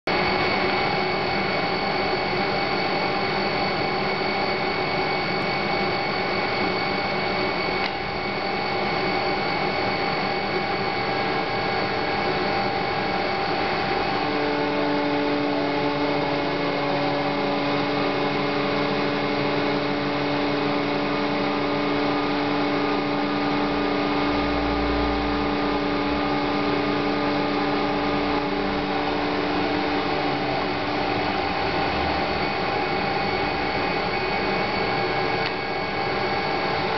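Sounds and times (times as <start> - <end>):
machine whirring and whining: 0.1 - 36.9.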